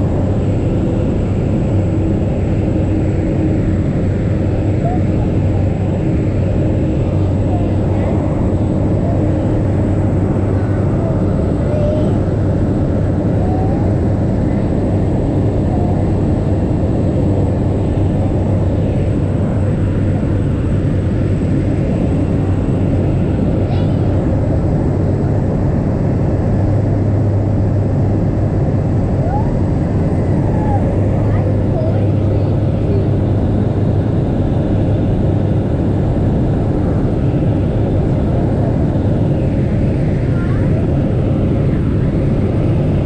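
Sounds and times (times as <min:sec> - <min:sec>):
plane engine drone in cabin: 0:00.0 - 0:43.0.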